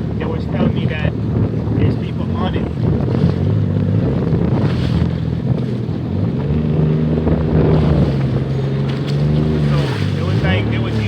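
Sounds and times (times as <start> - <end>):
jet ski engine running: 0.0 - 11.0
water and wind noise: 0.0 - 11.0.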